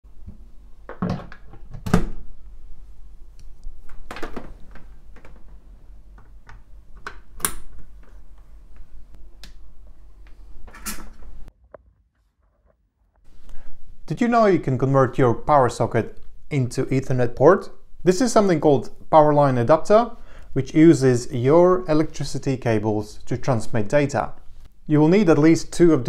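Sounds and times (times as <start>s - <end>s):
low steady hum: 0.1s - 11.8s, 13.3s - 26.0s.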